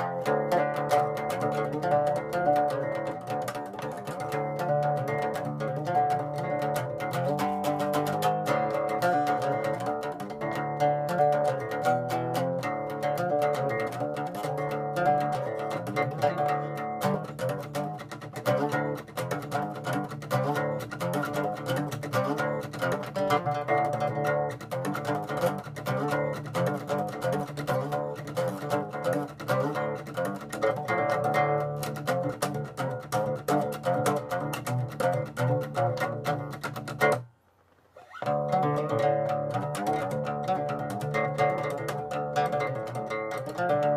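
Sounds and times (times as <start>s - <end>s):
acoustic guitar strumming: 0.0s - 37.3s, 38.0s - 43.9s.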